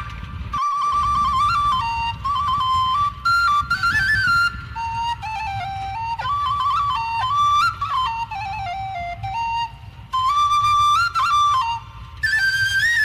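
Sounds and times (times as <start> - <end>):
flute melody: 0.0 - 13.0
low steady rumble: 0.0 - 13.0.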